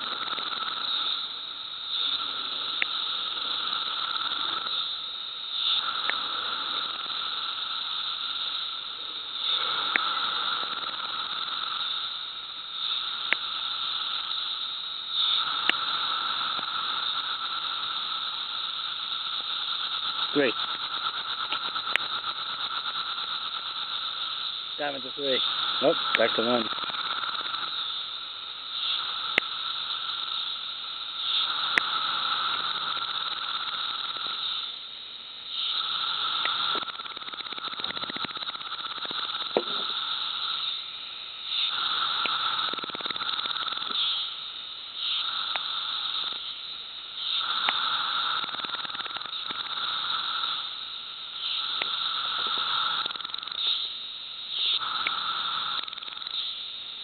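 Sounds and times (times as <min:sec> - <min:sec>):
cicada chorus: 0:00.0 - 0:57.0
cicadas buzzing: 0:00.0 - 0:57.0.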